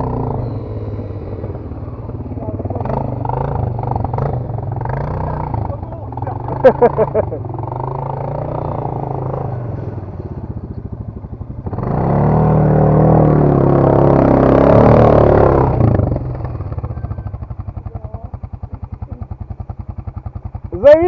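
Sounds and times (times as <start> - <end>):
dirt bike engine idling and revving: 0.0 - 21.0.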